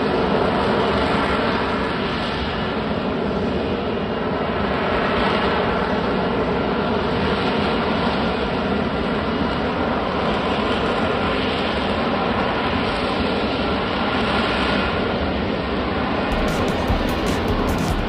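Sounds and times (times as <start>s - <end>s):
jet engine running: 0.0s - 18.0s.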